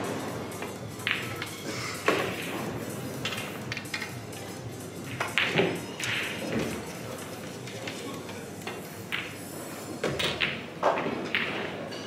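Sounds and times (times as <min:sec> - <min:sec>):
billiard balls clicking: 0:00.6 - 0:04.3, 0:05.0 - 0:09.4, 0:10.0 - 0:11.9.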